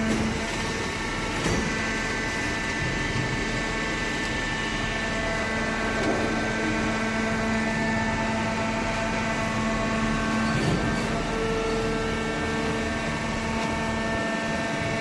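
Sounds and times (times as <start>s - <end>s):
hydraulic baler hum and whine: 0.0s - 15.0s.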